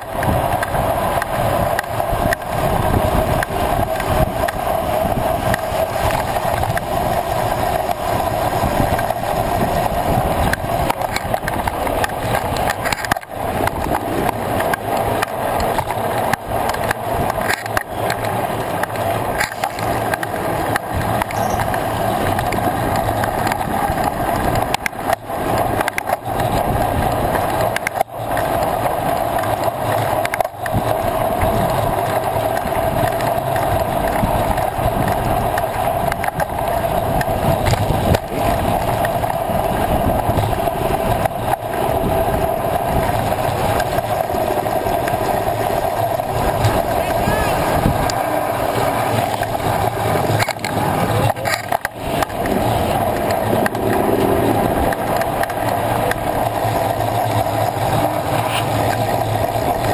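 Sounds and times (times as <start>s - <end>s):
bike tyres rolling on asphalt: 0.0s - 59.9s.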